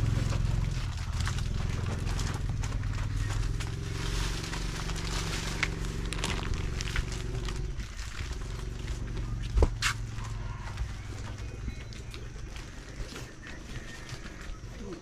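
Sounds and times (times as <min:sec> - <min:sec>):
low machine hum: 0:00.0 - 0:15.0
rustling: 0:00.0 - 0:15.0.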